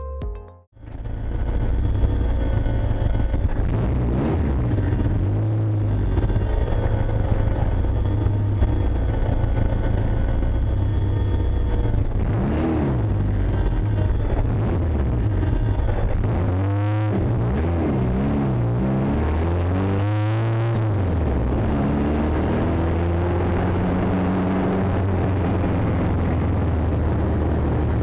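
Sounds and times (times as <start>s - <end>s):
car engine droning: 0.8s - 28.0s.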